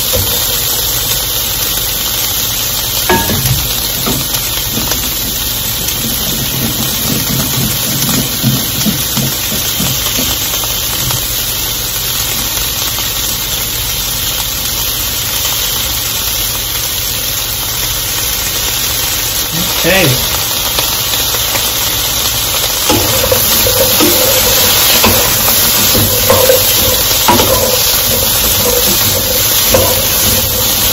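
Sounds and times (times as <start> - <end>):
vegetables sizzling in a wok: 0.0 - 30.9.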